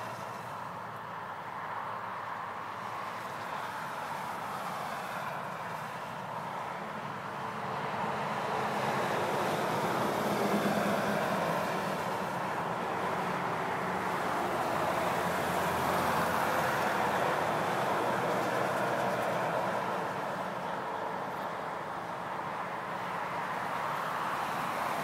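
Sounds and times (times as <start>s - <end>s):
passing vehicles rushing: 0.0s - 25.0s.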